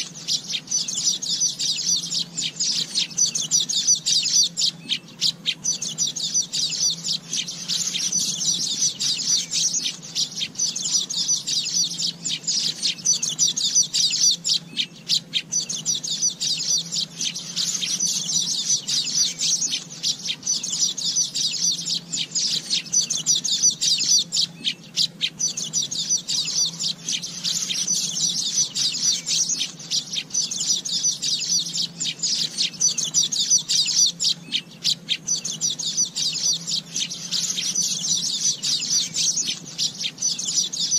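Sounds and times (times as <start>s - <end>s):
weaver bird chattering song: 0.0s - 40.9s.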